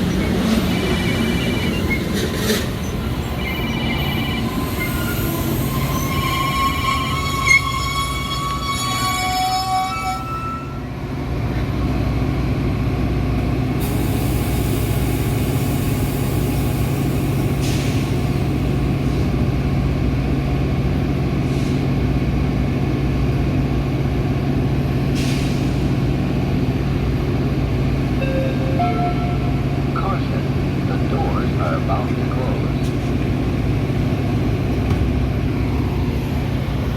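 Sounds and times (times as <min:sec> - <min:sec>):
diesel locomotive humming: 0:00.0 - 0:36.9.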